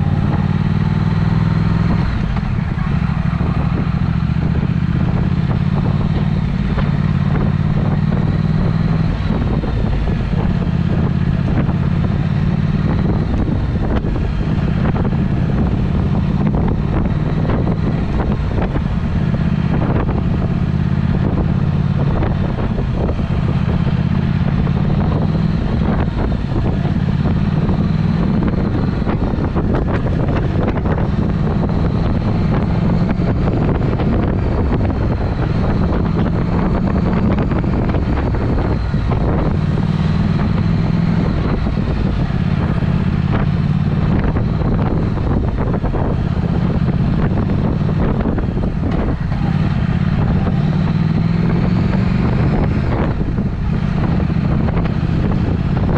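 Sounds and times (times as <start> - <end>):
motorcycle exhaust note: 0.0 - 55.9
wind on microphone: 0.0 - 55.9.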